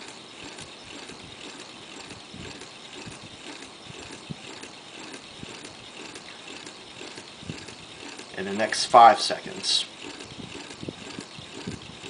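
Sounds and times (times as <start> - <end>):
motor clicking and rattling: 0.0 - 12.0.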